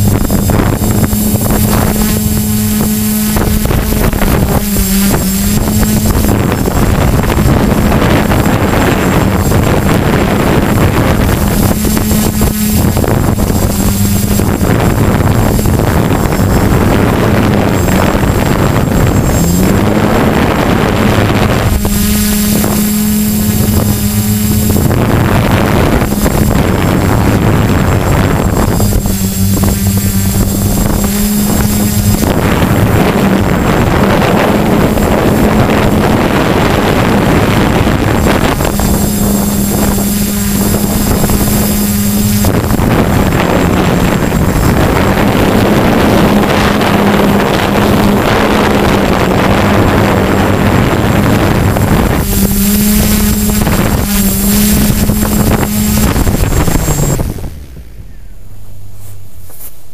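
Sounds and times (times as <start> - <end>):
drone motors humming: 0.0 - 59.9
wind buffeting microphone: 0.0 - 59.9.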